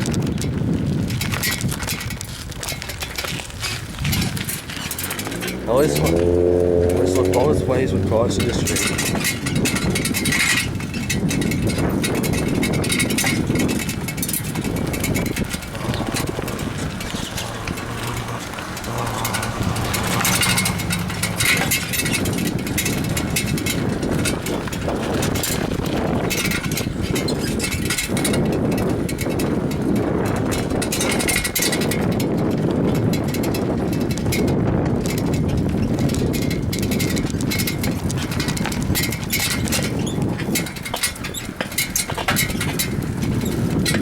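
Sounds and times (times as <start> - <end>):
road noise: 0.0 - 44.0
wind rushing over microphone: 0.0 - 44.0.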